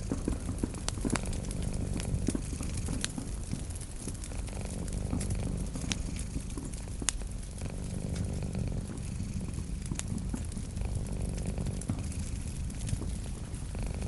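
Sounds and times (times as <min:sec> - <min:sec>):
cat purring: 0:00.0 - 0:14.0
wood fire crackling and popping: 0:00.0 - 0:14.0.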